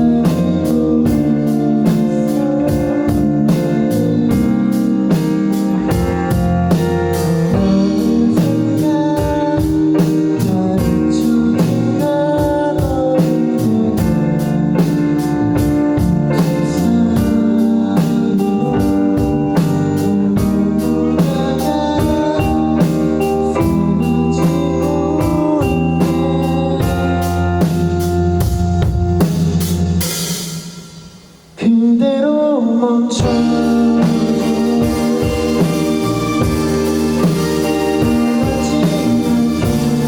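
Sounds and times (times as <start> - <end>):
organ-like keyboard chords: 0.0 - 30.4, 33.2 - 40.0
steady drum beat: 0.0 - 31.6, 33.2 - 40.0.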